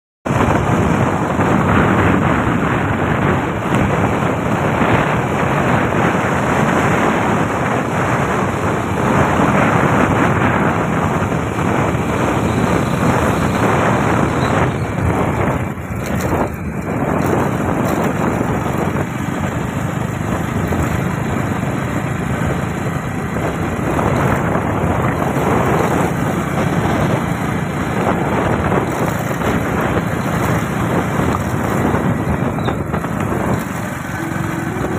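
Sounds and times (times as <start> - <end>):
wind buffeting microphone: 0.2 - 34.9
motorbike running: 0.3 - 34.9.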